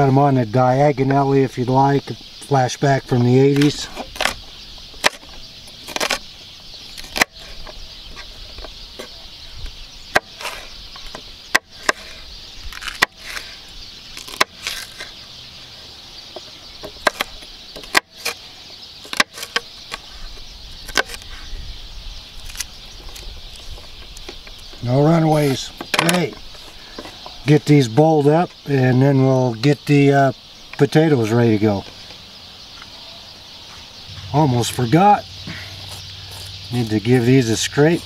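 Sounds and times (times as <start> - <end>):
high insect hiss: 0.0 - 38.0.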